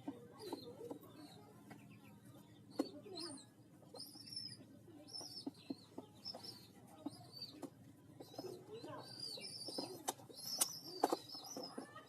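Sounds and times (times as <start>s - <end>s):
pigeon chicks cheeping: 0.0s - 12.0s.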